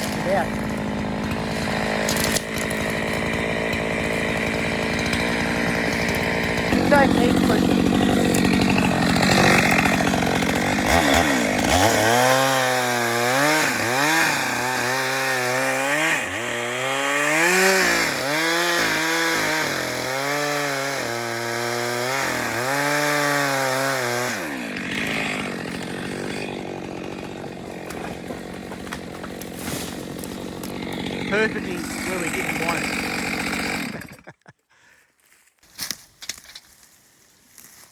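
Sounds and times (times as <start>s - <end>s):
chainsaw cutting a log: 0.0s - 34.4s.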